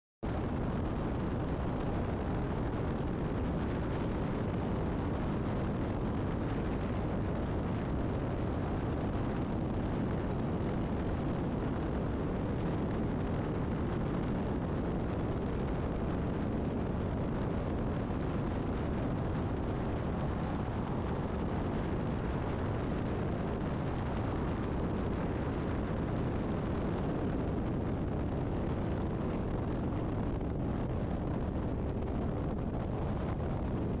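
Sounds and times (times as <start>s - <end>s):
highway wind and road noise: 0.2s - 34.0s
wind buffeting camera: 0.3s - 34.0s.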